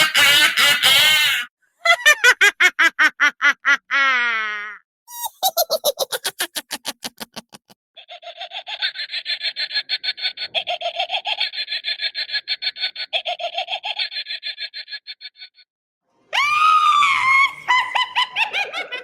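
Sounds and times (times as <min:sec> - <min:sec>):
witch cackle: 0:00.0 - 0:15.6, 0:16.4 - 0:19.0.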